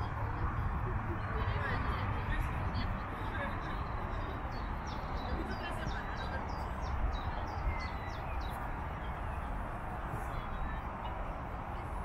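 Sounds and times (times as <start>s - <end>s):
small birds chirping: 1.9s - 11.8s.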